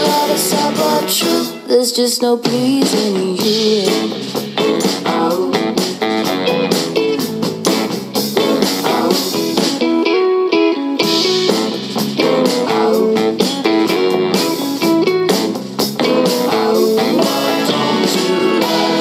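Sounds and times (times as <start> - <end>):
drum beat: 0.0 - 1.5, 2.5 - 9.9, 11.0 - 19.0
electric guitar: 0.0 - 1.9, 2.5 - 19.0
bass: 0.0 - 19.0.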